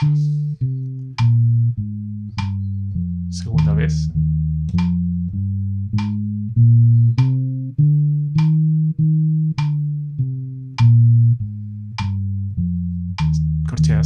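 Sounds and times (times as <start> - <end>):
electric bass playing scale: 0.0 - 14.0
metronome clicking: 0.0 - 14.0.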